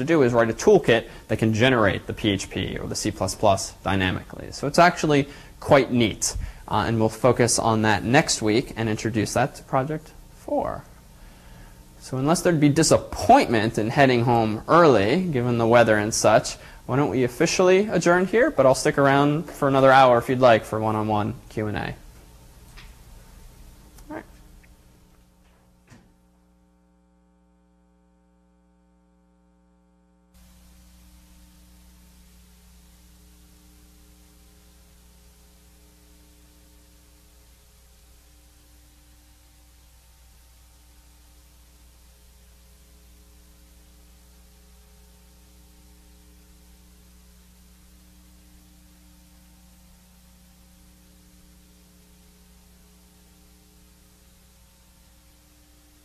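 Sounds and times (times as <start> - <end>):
background hiss: 0.0 - 26.5, 30.3 - 56.0
electrical hum: 0.0 - 56.0.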